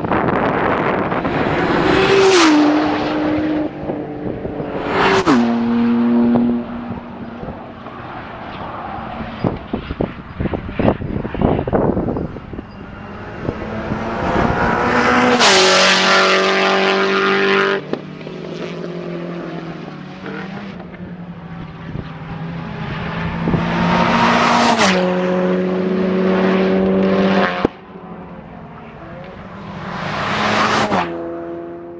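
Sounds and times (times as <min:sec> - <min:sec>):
race car engine passing at speed: 0:00.0 - 0:31.9.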